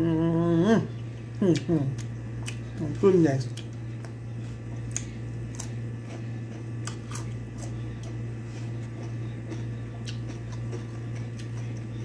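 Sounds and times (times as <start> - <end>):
steady low hum: 0.0 - 12.0
person chewing cucumber: 0.9 - 12.0.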